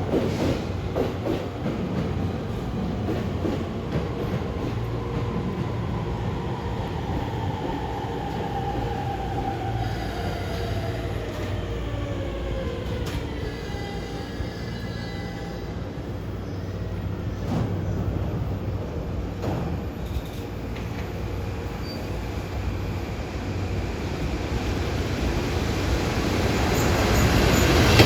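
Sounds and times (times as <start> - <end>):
freight train passing: 0.0 - 28.0.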